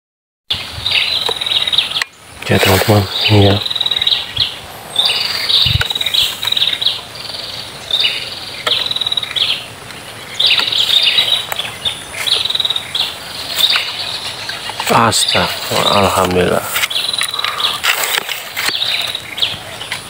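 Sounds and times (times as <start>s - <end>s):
high buzzy chirping calls: 0.5s - 20.0s.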